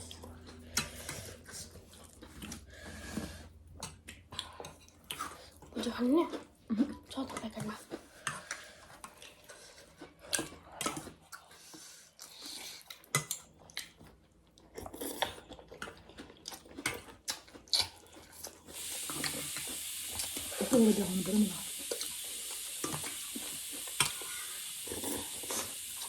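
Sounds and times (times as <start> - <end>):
person chewing noodle soup: 0.0 - 7.0, 7.8 - 20.4, 21.7 - 26.0.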